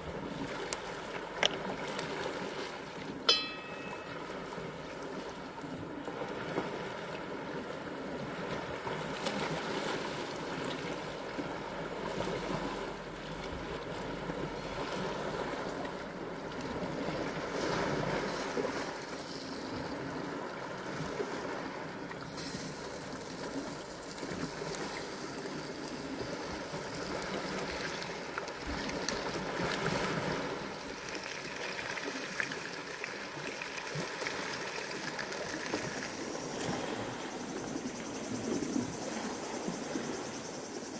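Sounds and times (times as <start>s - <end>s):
waves washing over rocks: 0.0s - 37.1s.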